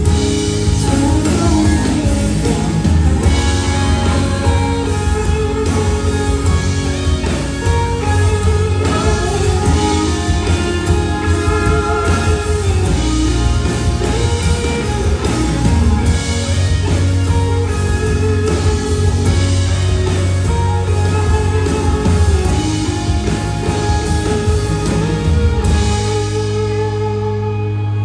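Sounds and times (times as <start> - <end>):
electric guitar: 0.0 - 28.0
live rock band playing: 0.0 - 28.0
strong bass: 0.0 - 28.0.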